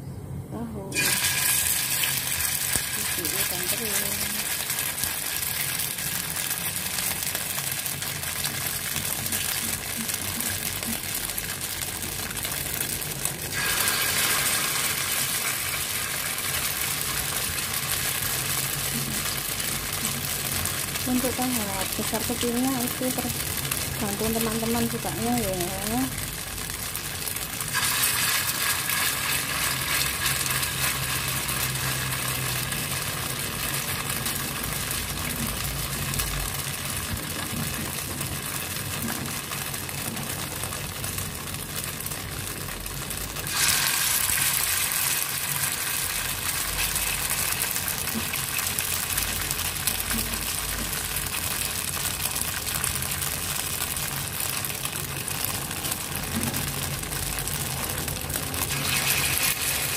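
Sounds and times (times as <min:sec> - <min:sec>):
fritters deep-frying in oil: 0:00.9 - 0:59.9.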